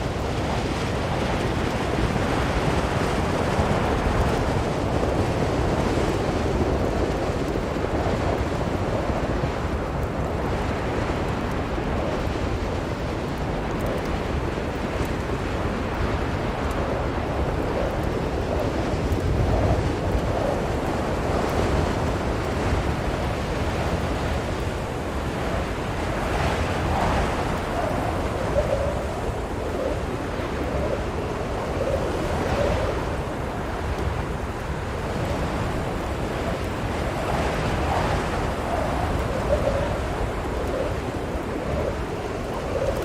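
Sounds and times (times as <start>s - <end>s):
blizzard wind howling: 0.0s - 43.0s.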